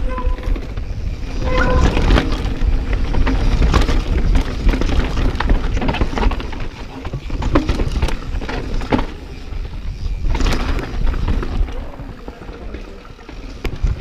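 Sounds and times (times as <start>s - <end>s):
bike clicks and knocks: 0.0s - 14.0s
bike rumbling on rough trail: 0.0s - 14.0s.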